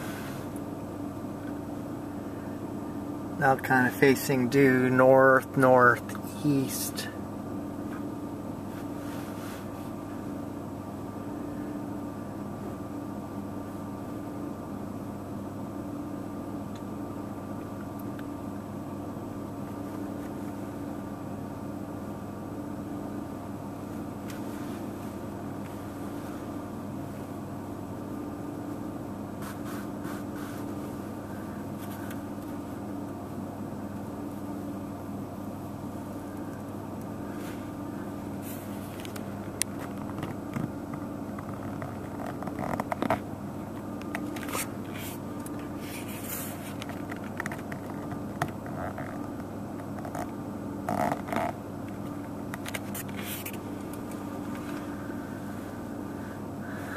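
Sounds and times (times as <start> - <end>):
steady mechanical hum: 0.0 - 56.9.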